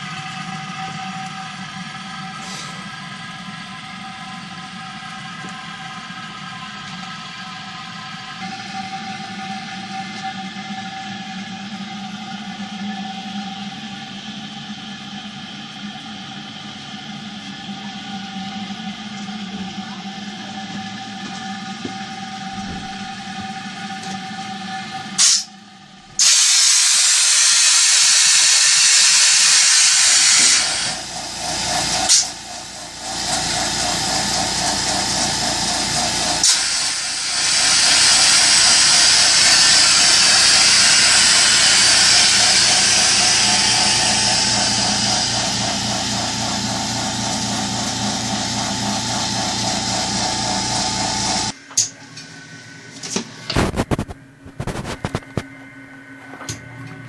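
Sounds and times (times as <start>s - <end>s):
machinery hissing and whirring: 0.0s - 51.6s.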